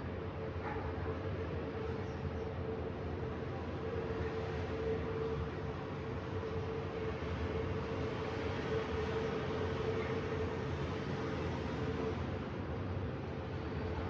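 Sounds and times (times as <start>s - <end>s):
outdoor ambient rumble and hiss: 0.0s - 14.0s.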